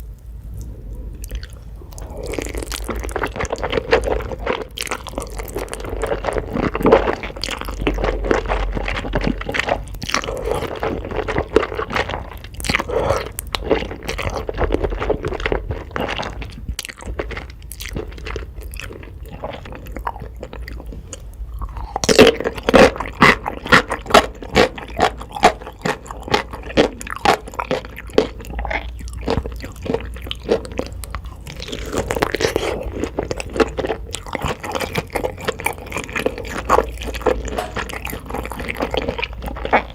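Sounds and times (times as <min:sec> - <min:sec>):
crunchy chewing: 0:00.0 - 0:39.9
wet mouth sounds: 0:00.0 - 0:39.9.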